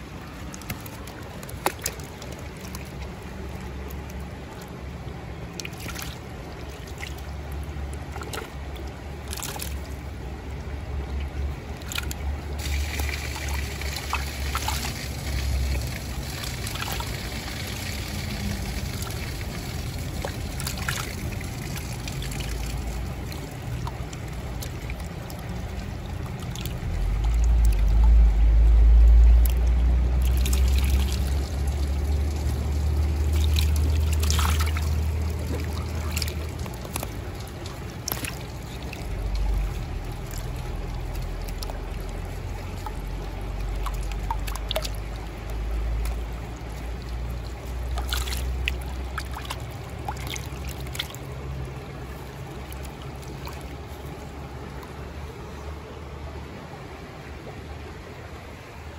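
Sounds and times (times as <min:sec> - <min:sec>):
creek water rushing: 0:00.0 - 0:58.9.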